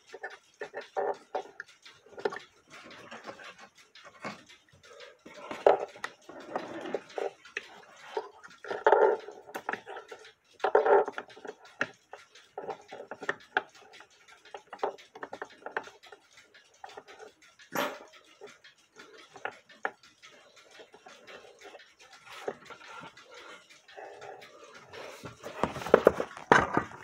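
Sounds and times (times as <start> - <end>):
small clicks and rubs: 0.0 - 27.0.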